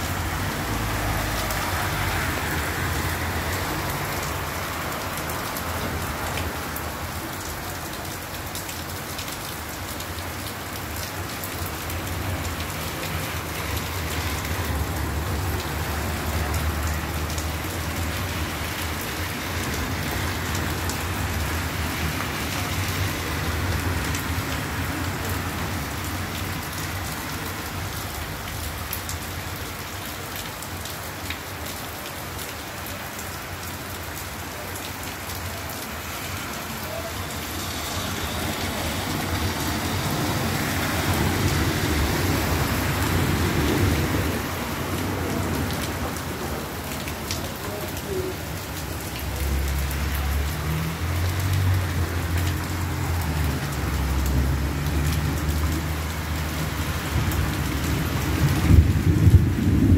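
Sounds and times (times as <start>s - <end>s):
heavy rain on gravel and concrete: 0.0s - 59.9s.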